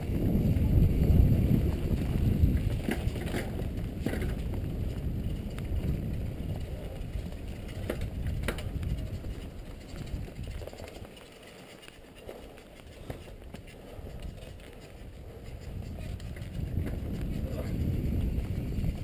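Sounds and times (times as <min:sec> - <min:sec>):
bike rattling: 0:00.0 - 0:19.0
tyres and wind rumbling: 0:00.0 - 0:19.0.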